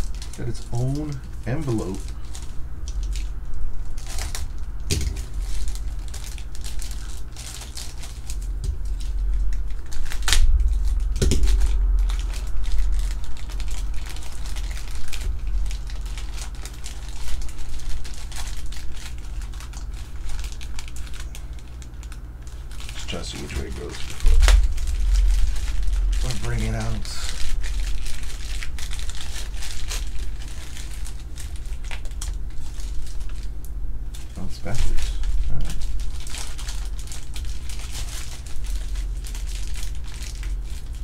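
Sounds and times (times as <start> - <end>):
plastic envelope crinkling: 0.0 - 41.0
plastic envelope ripping: 0.0 - 41.0.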